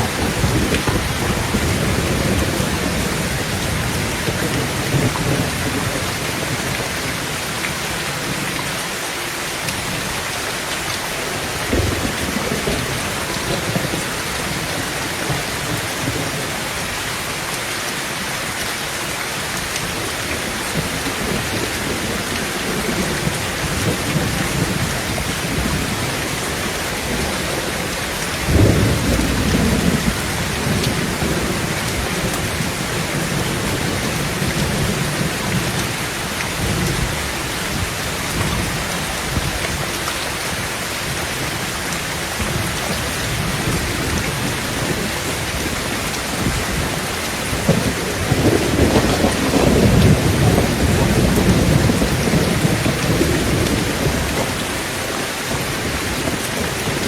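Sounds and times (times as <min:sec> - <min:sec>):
thunder rumbling: 0:00.0 - 0:08.6, 0:10.9 - 0:16.8, 0:19.8 - 0:57.0
rain drumming on a tin roof: 0:00.0 - 0:57.0.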